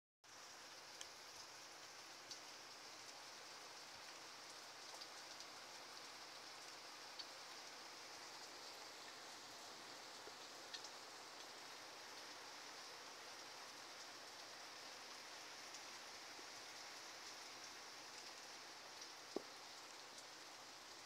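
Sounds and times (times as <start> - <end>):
rain falling: 0.2 - 21.0
close raindrops ticking: 0.3 - 21.0.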